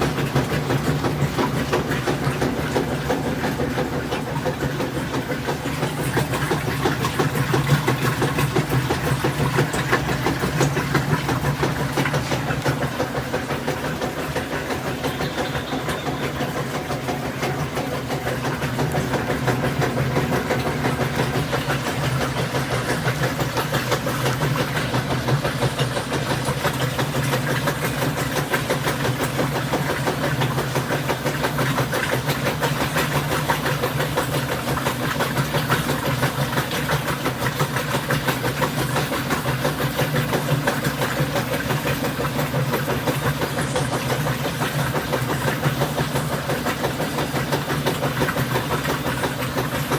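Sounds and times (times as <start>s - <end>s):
washing machine motor pulsing hum: 0.0s - 49.9s.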